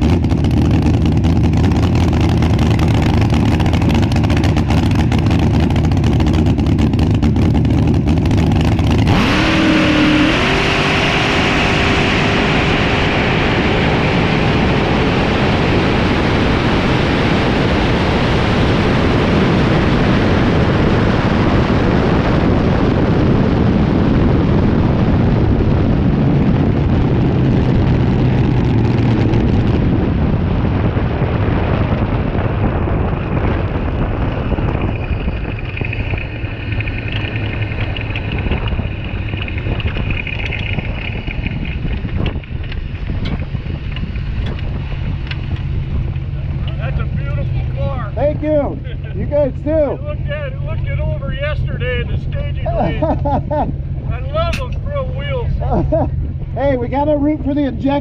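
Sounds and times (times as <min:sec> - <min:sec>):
drag racing car engine crackling: 0:00.0 - 0:58.0
wind noise: 0:00.0 - 0:58.0.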